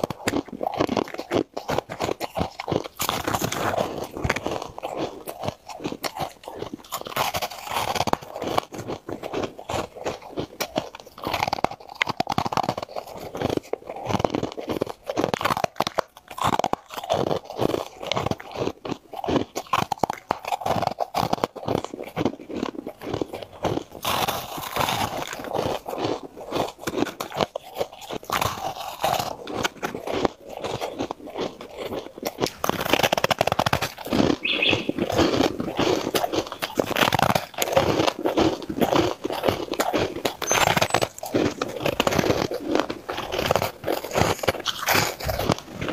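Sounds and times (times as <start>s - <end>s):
person crunching ice: 0.0s - 45.9s.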